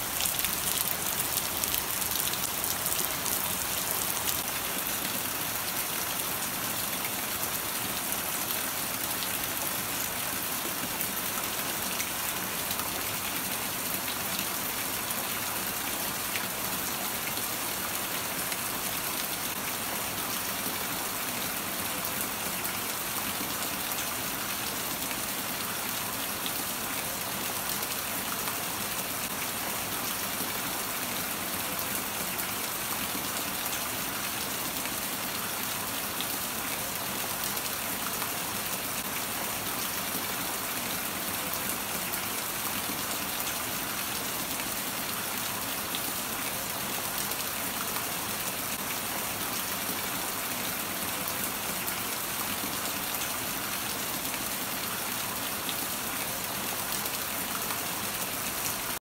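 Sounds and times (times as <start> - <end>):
rain on pavement and leaves: 0.0 - 59.0
water streaming off a roof: 0.0 - 59.0.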